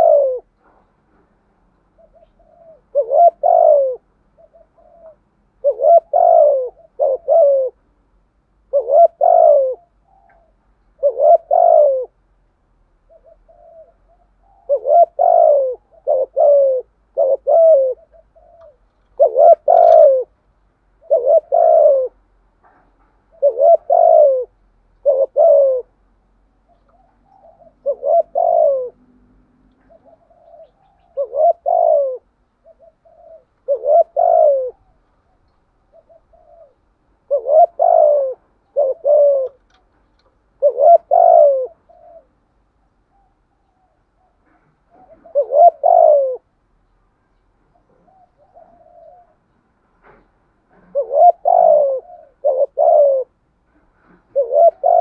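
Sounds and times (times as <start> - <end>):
dove cooing: 0.0 - 1.1, 1.8 - 46.6, 47.6 - 55.0.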